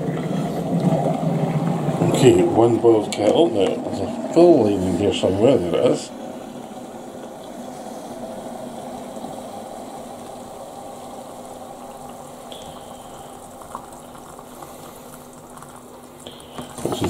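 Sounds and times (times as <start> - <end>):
boiling water pouring into cup: 0.0 - 17.0.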